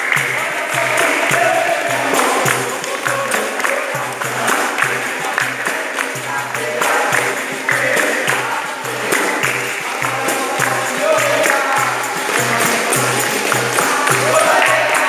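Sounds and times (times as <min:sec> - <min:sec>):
handclaps: 0:00.0 - 0:15.0
low percussion beat: 0:00.0 - 0:15.0
tambourine jingles: 0:00.0 - 0:15.0
voices singing: 0:00.0 - 0:15.0.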